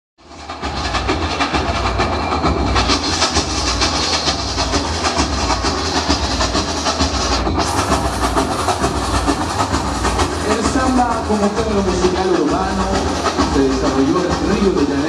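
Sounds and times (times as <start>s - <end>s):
samba percussion music: 0.2s - 15.0s.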